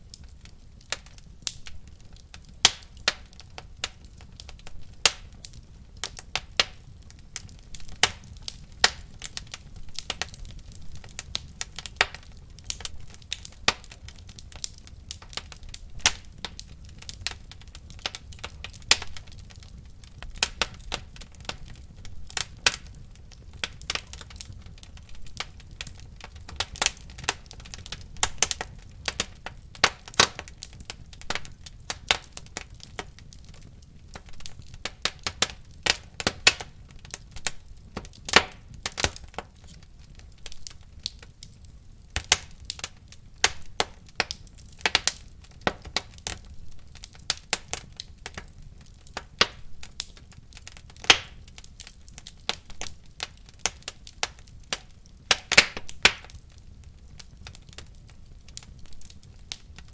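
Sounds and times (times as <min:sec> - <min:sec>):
wood fire crackling: 0:00.0 - 0:59.9
sharp pops of burning wood: 0:00.1 - 0:59.9.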